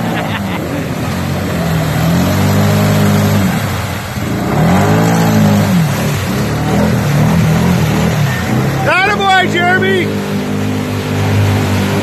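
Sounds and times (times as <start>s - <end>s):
atv engine revving: 0.0s - 12.0s
tyres spraying mud: 0.0s - 12.0s.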